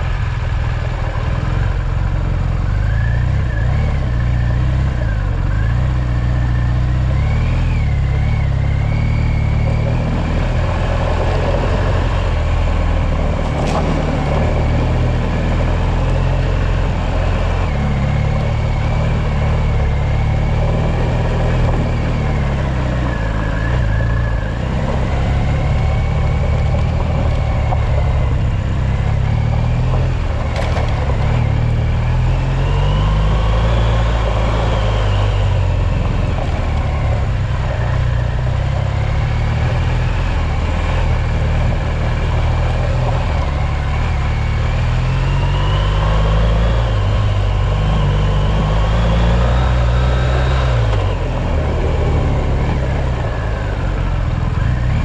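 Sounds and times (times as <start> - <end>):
off-road vehicle engine: 0.0 - 55.0.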